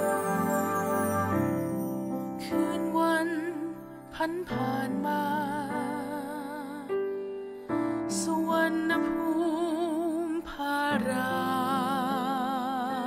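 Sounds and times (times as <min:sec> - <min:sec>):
slow melody with vibrato: 0:00.0 - 0:13.0
soft accompaniment: 0:00.0 - 0:13.0.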